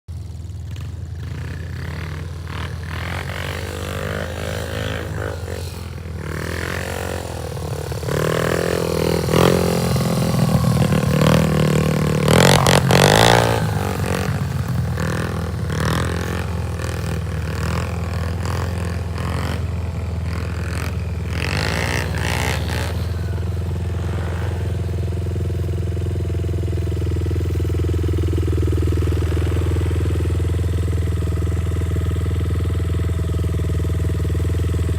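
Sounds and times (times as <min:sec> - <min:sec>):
pit bike engine revving: 0:00.1 - 0:34.9.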